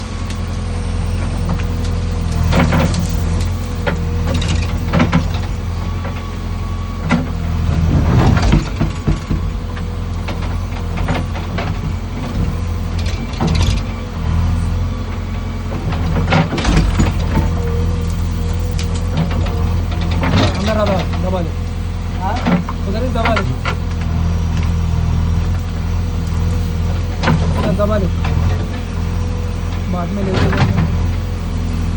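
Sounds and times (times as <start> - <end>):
diesel engine running: 0.0 - 31.9
steady whine: 0.0 - 31.9.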